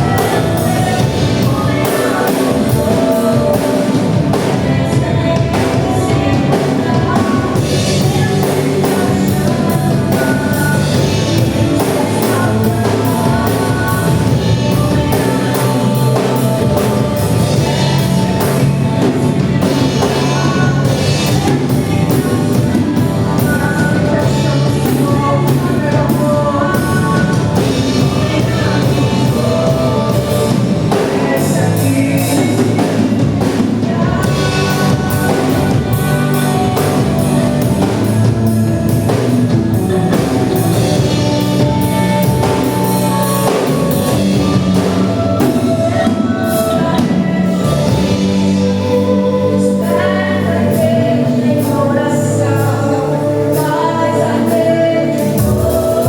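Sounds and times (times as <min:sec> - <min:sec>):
drum kit: 0:00.0 - 0:56.0
guitar: 0:00.0 - 0:56.0
person singing: 0:00.0 - 0:56.0.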